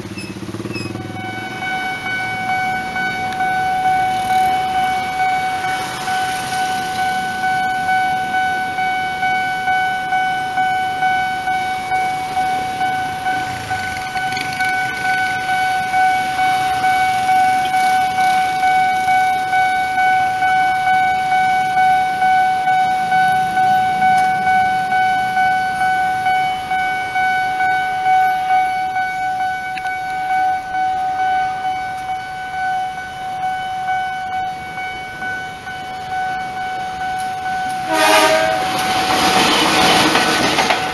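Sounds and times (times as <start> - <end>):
level crossing warning bell: 0.0 - 40.9
motorbikes and cars idling: 0.0 - 40.9.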